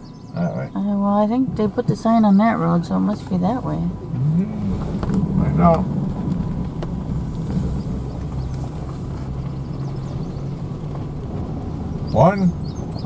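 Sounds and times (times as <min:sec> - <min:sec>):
road rumble: 0:00.0 - 0:13.0
truck engine hum: 0:00.0 - 0:13.0.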